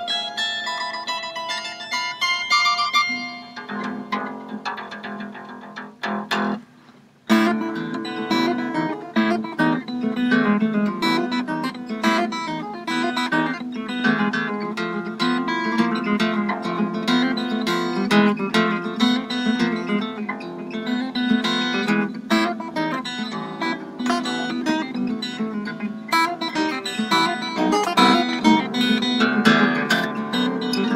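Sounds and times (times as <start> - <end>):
harp guitar fingerstyle: 0.0 - 30.9.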